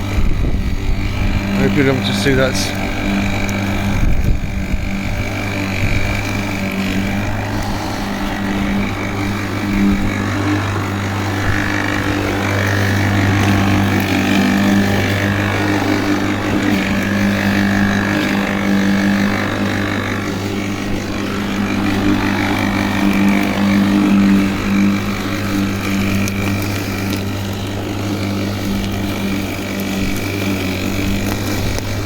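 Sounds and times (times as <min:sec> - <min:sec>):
lawnmower motor cutting grass: 0:00.0 - 0:32.0.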